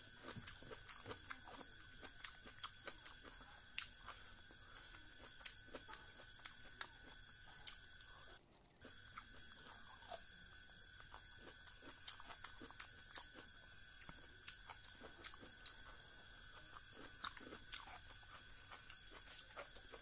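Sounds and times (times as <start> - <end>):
faint high whine: 0.0 - 20.0
close chewing and lip smacks: 0.2 - 10.3, 11.0 - 20.0.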